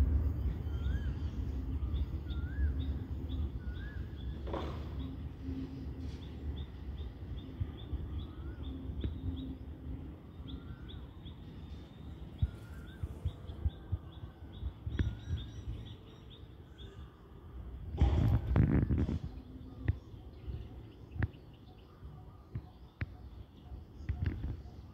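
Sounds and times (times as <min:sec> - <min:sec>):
low outdoor rumble: 0:00.0 - 0:24.9
small birds chirping: 0:00.3 - 0:24.9.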